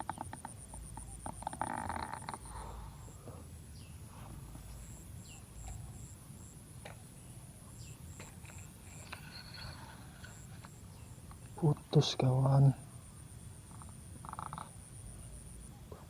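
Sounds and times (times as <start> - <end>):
insects chirping in pulses: 0.0 - 15.8.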